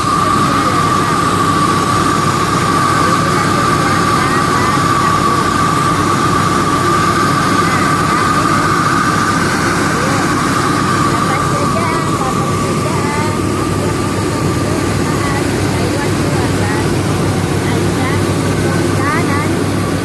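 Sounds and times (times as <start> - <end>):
high mechanical whine: 0.0 - 20.0
rice milling machine drone: 0.0 - 20.0.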